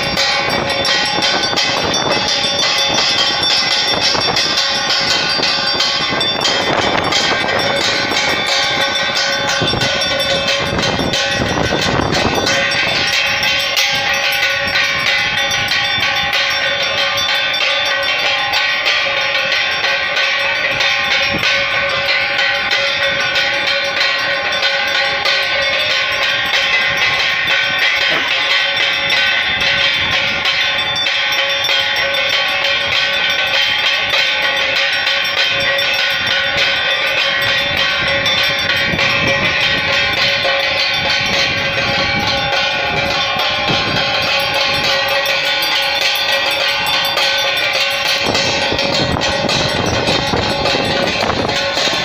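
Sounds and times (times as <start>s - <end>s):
bells clanging rapidly: 0.0s - 52.0s.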